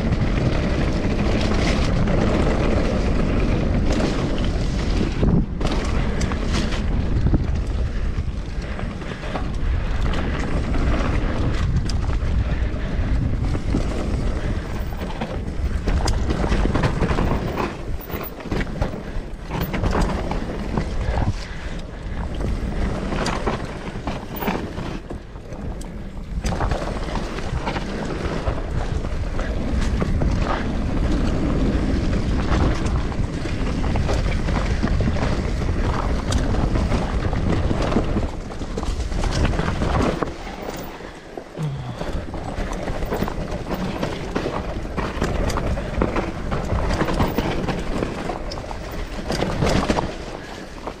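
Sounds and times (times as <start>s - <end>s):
bike clattering over bumps: 0.0s - 51.0s
bike tyres rumbling on dirt: 0.0s - 51.0s
wind buffeting microphone: 0.0s - 51.0s.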